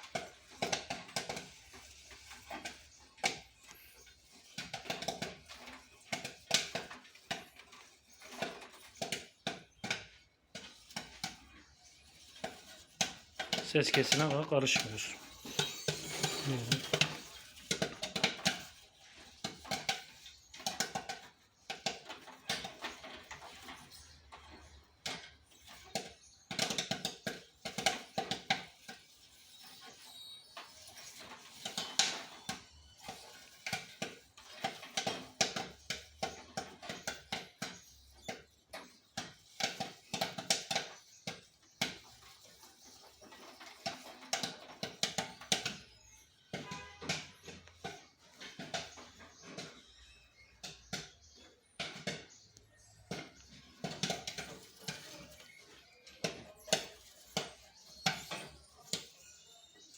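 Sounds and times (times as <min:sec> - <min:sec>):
popcorn popping: 0:00.0 - 0:59.9.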